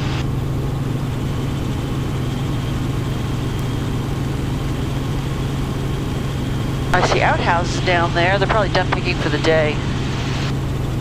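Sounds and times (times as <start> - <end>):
helicopter engine and rotors droning: 0.0 - 11.0.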